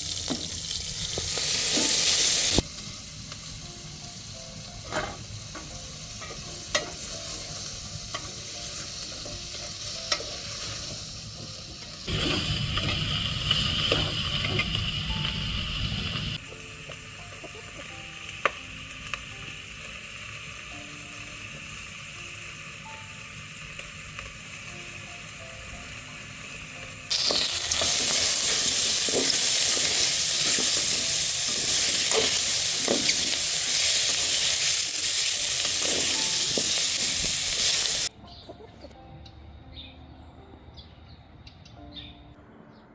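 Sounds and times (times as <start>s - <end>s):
food sizzling in a pan: 0.0s - 38.1s.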